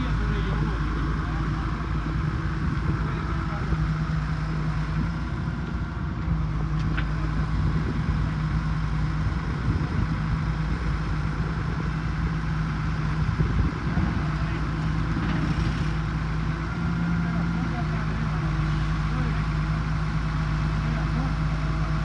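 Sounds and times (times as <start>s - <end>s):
machine engine humming: 0.0s - 22.0s.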